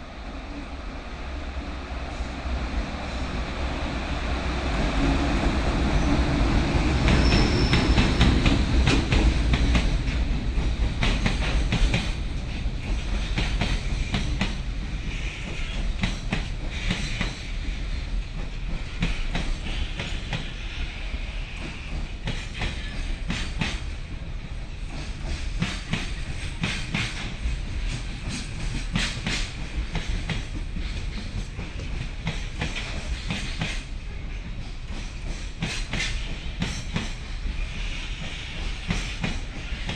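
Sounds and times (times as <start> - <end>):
train wheels clacking over rail joints: 6.4 - 39.9.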